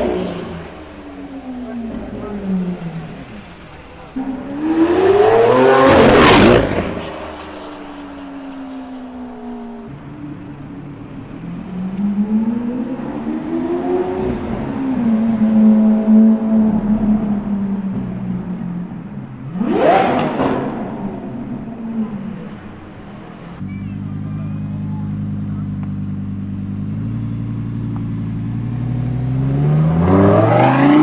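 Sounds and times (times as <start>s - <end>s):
sports car accelerating past: 0.0s - 9.8s, 11.1s - 23.6s, 26.0s - 31.0s
car engine revving: 0.0s - 10.1s, 10.8s - 31.0s.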